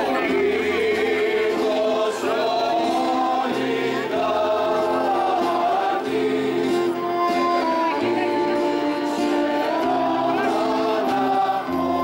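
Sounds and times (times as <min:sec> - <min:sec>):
instrumental backing with bass: 0:00.0 - 0:12.0
voices singing together: 0:00.0 - 0:12.0.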